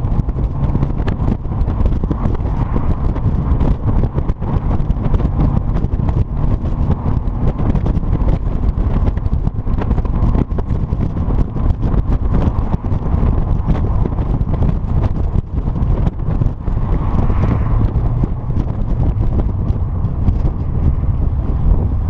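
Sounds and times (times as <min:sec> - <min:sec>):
engine rumbling: 0:00.0 - 0:22.0.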